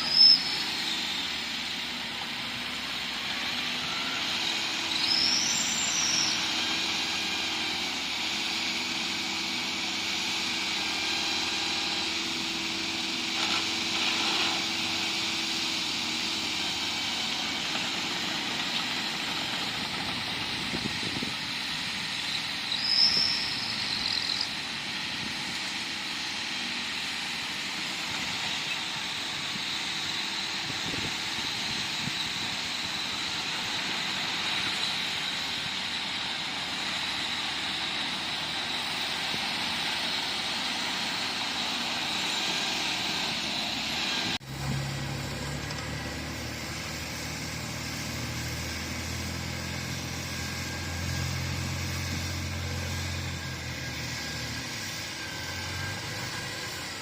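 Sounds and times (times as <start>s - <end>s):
bulldozer diesel engine: 0.0s - 57.0s
high-pitched squeal: 0.0s - 57.0s.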